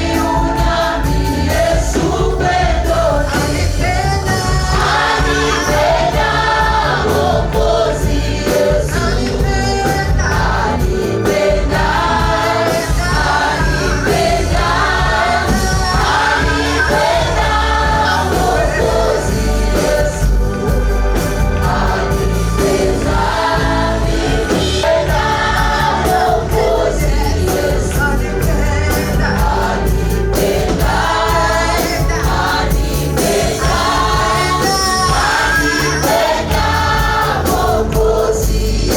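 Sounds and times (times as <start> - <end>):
band with bass and drums: 0.0 - 38.9
choir singing gospel song: 0.0 - 38.9.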